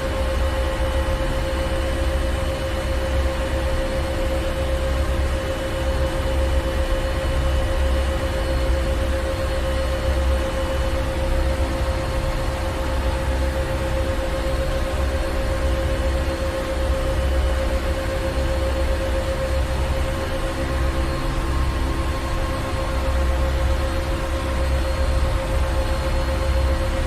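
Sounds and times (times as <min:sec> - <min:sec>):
constant machinery hum: 0:00.0 - 0:27.0.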